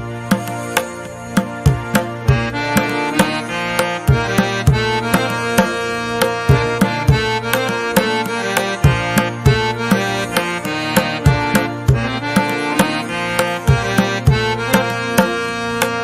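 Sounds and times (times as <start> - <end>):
instrumental music with beat: 0.0 - 16.0.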